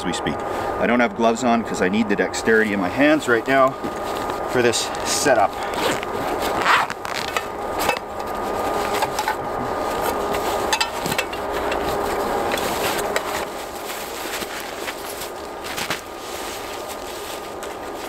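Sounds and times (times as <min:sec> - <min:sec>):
rustling in a backpack: 0:02.5 - 0:18.0
tarp shaken open: 0:03.3 - 0:18.0.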